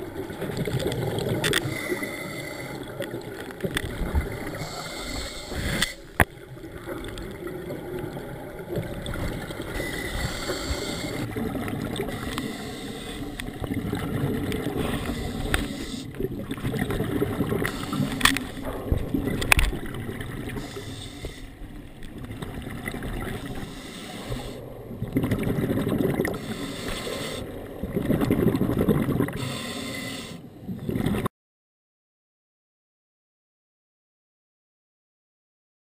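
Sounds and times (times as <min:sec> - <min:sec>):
regulator bubbles gurgling: 0:00.0 - 0:29.8, 0:30.5 - 0:31.3.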